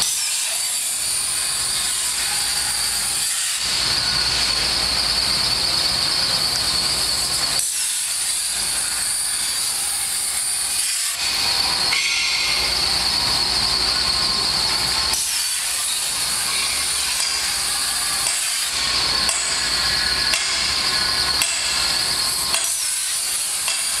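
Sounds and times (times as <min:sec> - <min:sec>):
plasma cutting torch hissing: 0:00.0 - 0:24.0.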